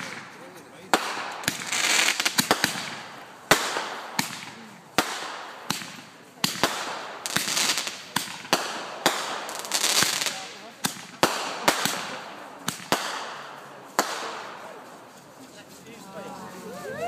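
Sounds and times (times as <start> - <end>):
fireworks bangs: 0.0 - 14.9
fireworks crackling hiss: 0.0 - 17.0.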